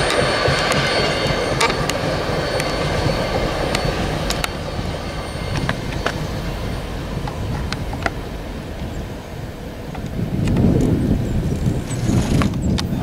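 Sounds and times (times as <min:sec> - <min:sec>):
freight train cars rumbling: 0:00.0 - 0:13.0.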